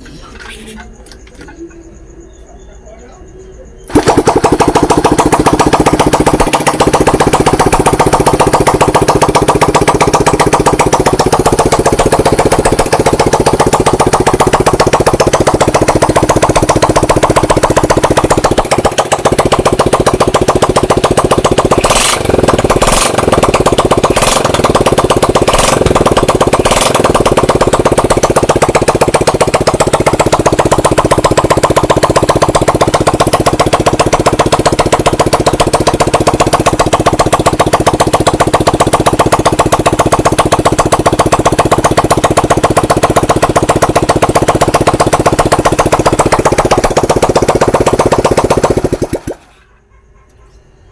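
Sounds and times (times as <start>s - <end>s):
motorcycle engine idling: 3.8s - 49.7s.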